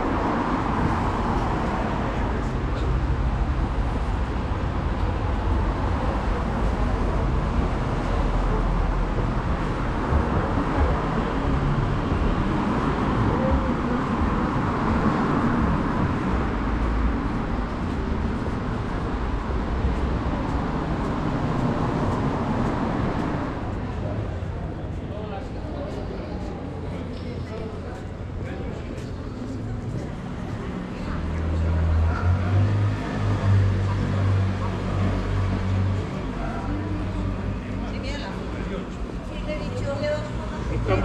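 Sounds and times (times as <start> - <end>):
street traffic rumble: 0.0 - 41.0.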